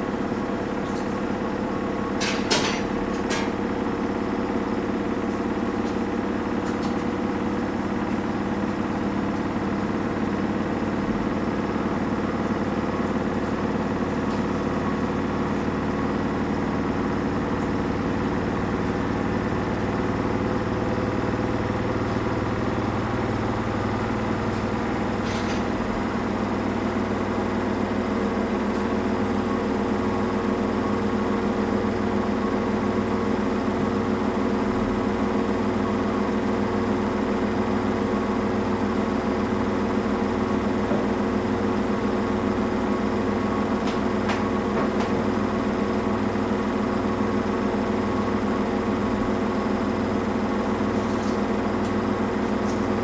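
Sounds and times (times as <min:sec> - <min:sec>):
washing machine motor hum: 0:00.0 - 0:53.0.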